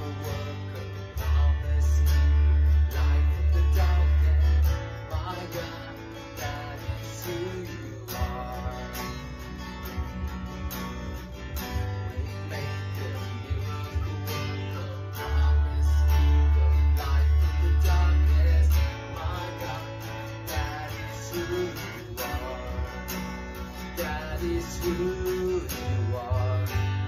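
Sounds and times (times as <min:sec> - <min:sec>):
man singing: 0:00.0 - 0:27.0
strummed acoustic guitar: 0:00.0 - 0:27.0.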